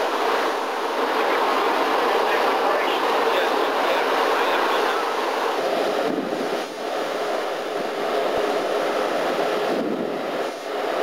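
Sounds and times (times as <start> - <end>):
sea: 0.0 - 11.0
wind: 0.0 - 11.0.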